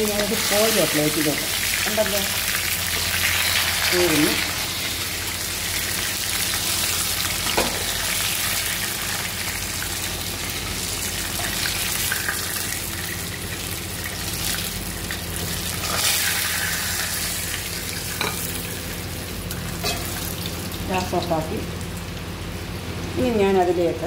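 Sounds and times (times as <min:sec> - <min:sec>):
chicken sizzling in hot oil: 0:00.0 - 0:23.3.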